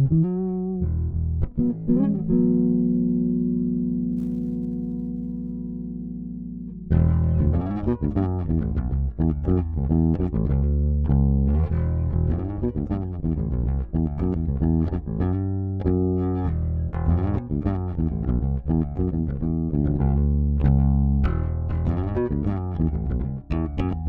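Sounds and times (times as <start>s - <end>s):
electric bass guitar plucked bass line: 0.0s - 24.0s.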